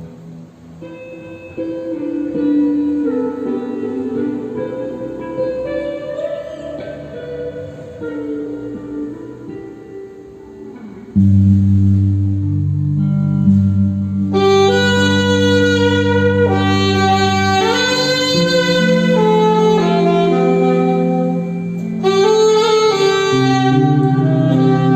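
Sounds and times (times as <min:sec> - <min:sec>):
higher melody line: 0:00.0 - 0:24.9
instrumental band music: 0:00.0 - 0:24.9.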